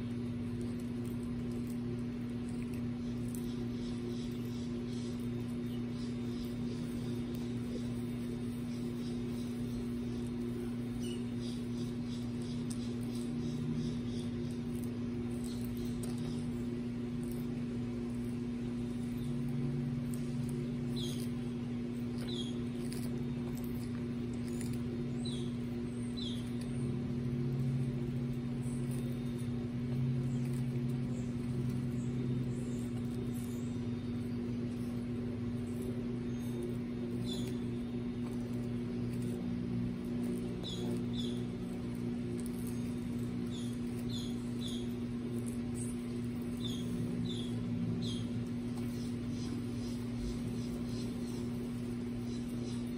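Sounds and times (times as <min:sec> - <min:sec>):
low mechanical hum: 0:00.0 - 0:52.9
tortoises munching lettuce: 0:00.0 - 0:52.9.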